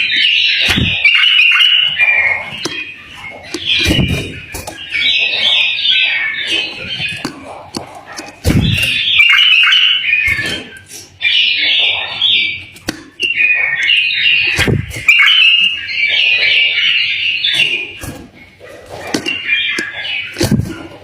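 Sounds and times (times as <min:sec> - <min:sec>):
bird singing warbled phrases: 0:00.0 - 0:21.0.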